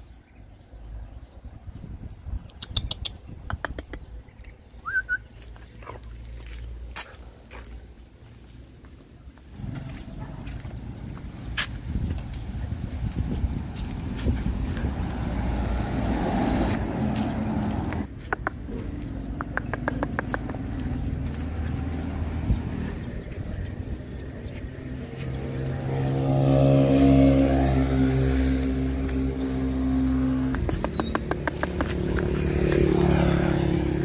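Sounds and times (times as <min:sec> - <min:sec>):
vehicle engine humming: 0:04.0 - 0:34.0.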